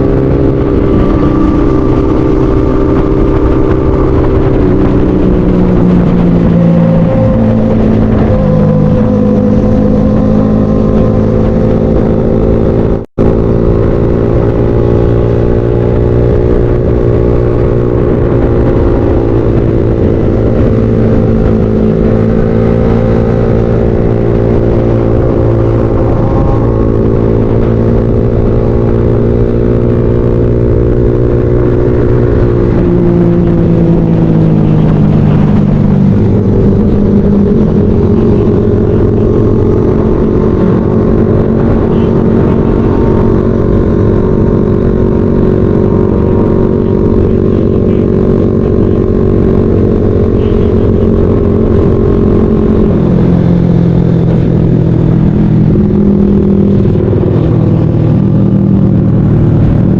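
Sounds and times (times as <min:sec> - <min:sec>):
motorcycle engine riding at speed: 0:00.0 - 0:59.9.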